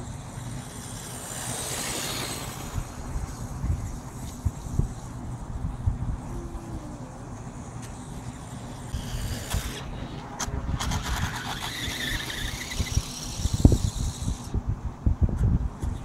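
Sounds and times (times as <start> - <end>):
rc motorcycle motor whining: 0.0 - 14.6.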